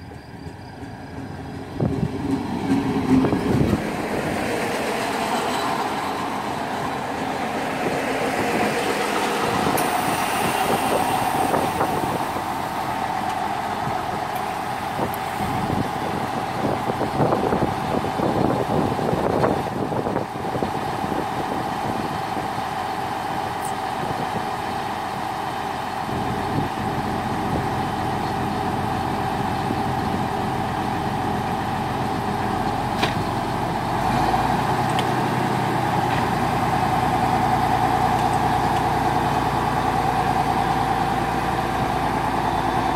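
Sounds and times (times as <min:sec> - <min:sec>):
train idling hum: 0:00.0 - 0:42.9.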